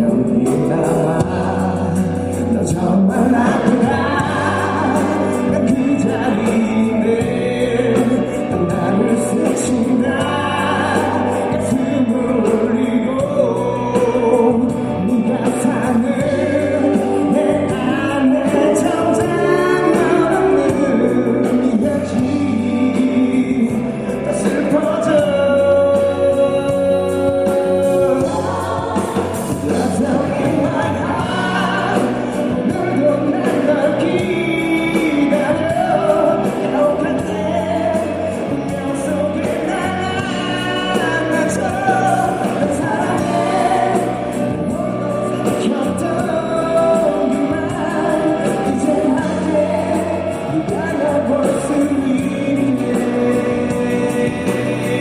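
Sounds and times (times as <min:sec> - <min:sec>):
man singing a ballad: 0:00.0 - 0:55.0
musical accompaniment: 0:00.0 - 0:55.0.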